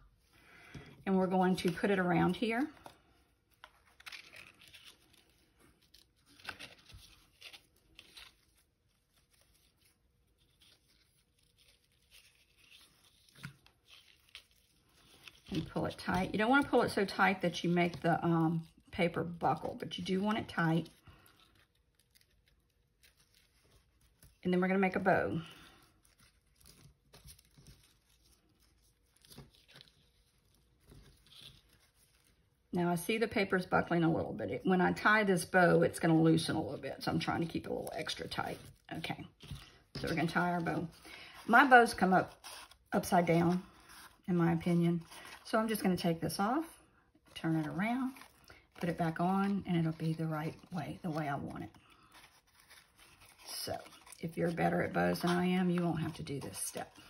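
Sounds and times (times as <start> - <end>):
ribbon and card rustling: 0.0 - 57.0.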